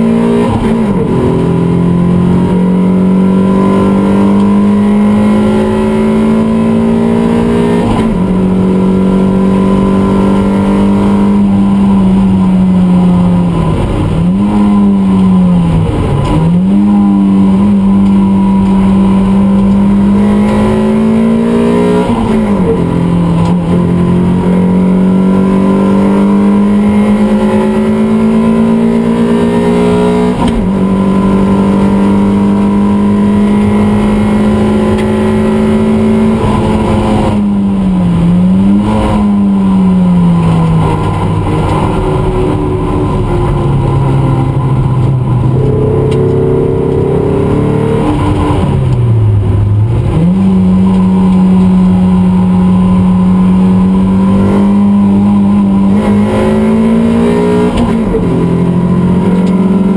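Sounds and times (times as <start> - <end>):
race car engine under power: 0.0 - 59.9.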